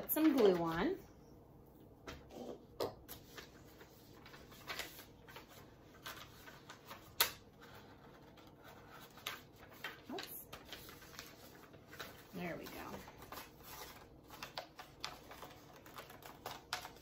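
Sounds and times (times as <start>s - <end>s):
paper rustling: 2.1s - 17.0s.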